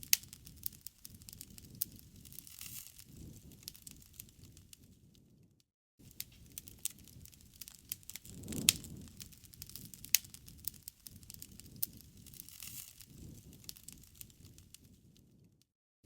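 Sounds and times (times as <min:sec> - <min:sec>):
flames rushing: 0:00.0 - 0:04.9, 0:06.0 - 0:15.4
loud fire pops: 0:00.0 - 0:05.0, 0:06.0 - 0:15.5
campfire wood crackling: 0:00.0 - 0:05.2, 0:06.0 - 0:15.5.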